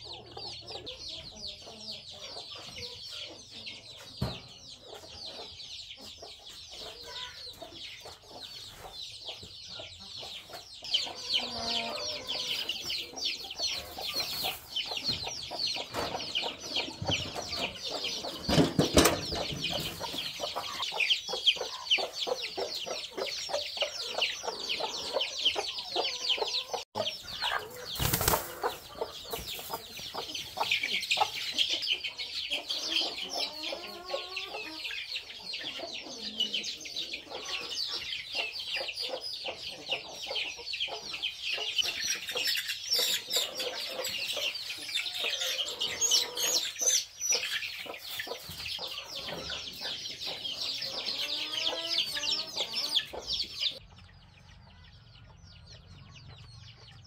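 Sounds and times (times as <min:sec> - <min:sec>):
chicken clucking: 0:00.0 - 0:57.0
chicks peeping: 0:00.0 - 0:57.0.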